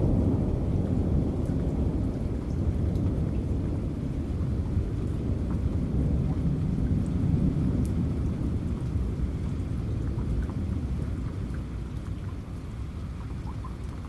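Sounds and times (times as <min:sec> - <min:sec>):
rolling thunder: 0:00.0 - 0:11.6
falling rain: 0:00.0 - 0:14.0.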